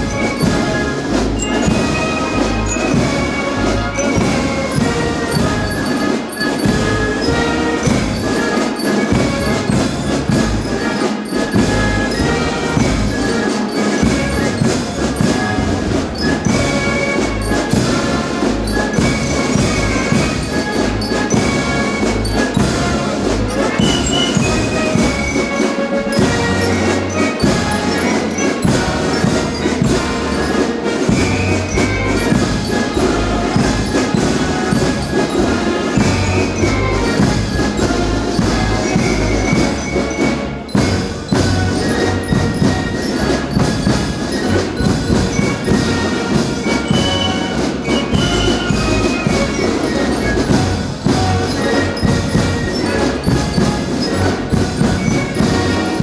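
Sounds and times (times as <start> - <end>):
brass band with drums playing: 0.0 - 56.0.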